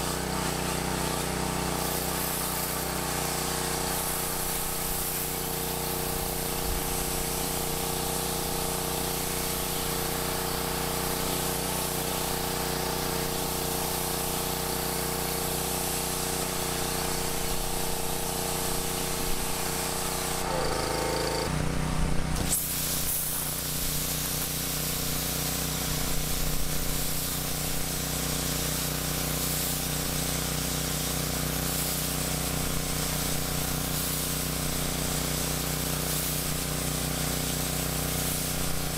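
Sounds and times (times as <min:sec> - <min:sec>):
pressure washer spraying water: 0:00.0 - 0:21.6, 0:22.2 - 0:38.9.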